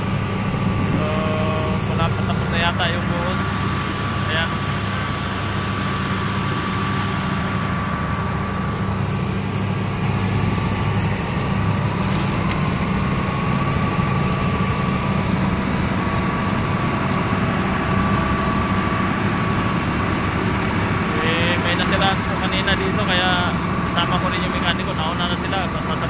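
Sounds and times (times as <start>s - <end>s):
heavy diesel engine droning: 0.0s - 26.0s
thin steady whine: 0.0s - 26.0s.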